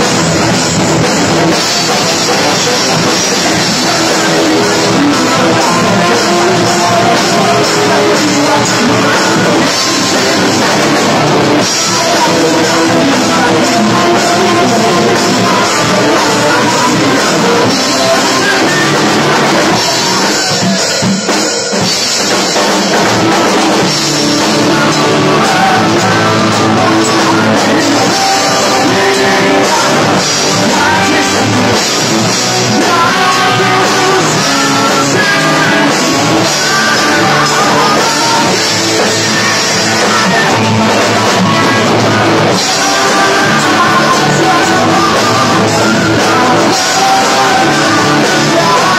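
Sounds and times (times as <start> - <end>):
lead vocals: 0.0 - 48.9
rock band playing: 0.0 - 48.9.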